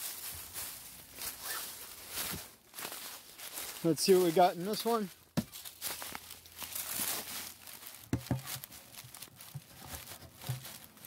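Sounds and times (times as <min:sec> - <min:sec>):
footsteps on dry leaves: 0:00.0 - 0:11.0.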